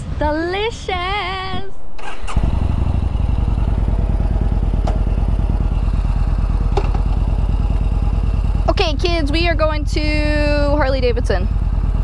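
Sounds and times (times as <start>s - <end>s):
motorcycle engine running: 2.0s - 12.0s.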